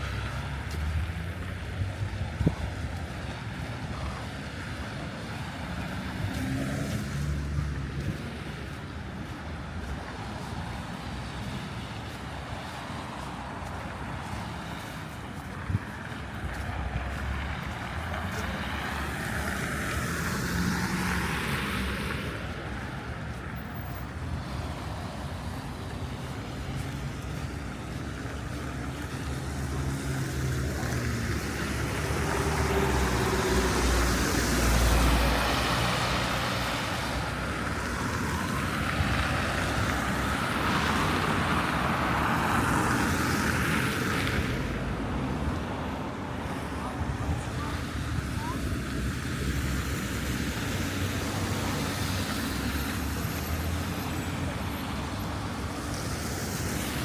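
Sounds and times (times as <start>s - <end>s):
cars passing close by: 0.0s - 57.0s
hum of cars: 0.0s - 57.0s.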